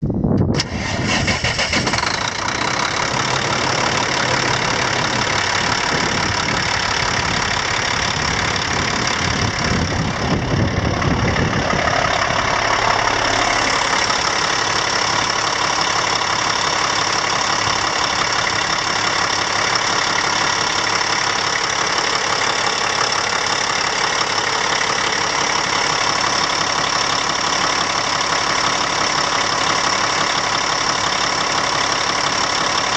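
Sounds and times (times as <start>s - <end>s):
diesel truck engine idling: 0.2s - 32.9s.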